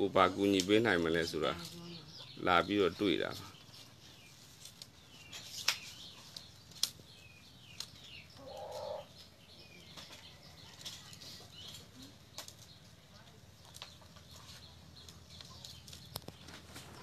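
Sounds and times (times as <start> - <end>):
bamboo strips clicking and rustling: 0.4 - 1.8, 3.0 - 17.0
bird chirps: 0.7 - 17.0.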